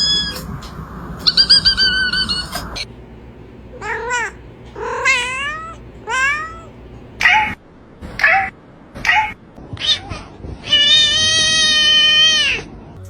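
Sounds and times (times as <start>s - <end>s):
cat meowing: 0.0s - 0.6s, 1.2s - 2.9s, 3.7s - 7.6s, 8.2s - 12.6s.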